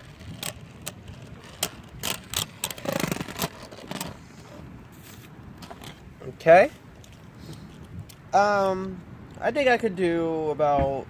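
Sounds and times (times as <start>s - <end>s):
rush of wind: 0.0s - 11.0s.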